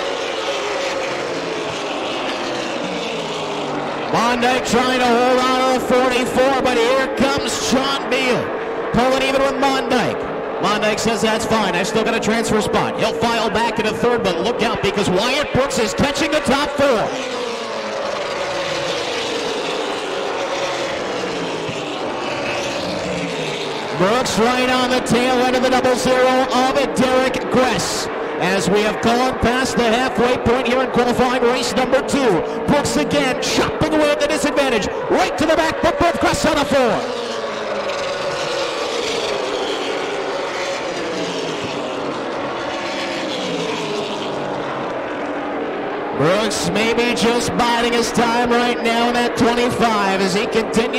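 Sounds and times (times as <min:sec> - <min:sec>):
race car engines droning: 0:00.0 - 0:50.9.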